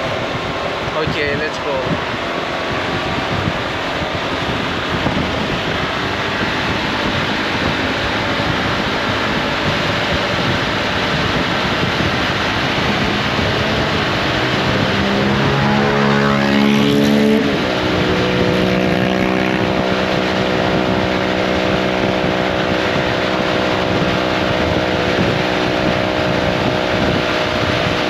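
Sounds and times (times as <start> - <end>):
scooter engine: 0.0 - 28.0
wind rushing over microphone: 0.0 - 28.0.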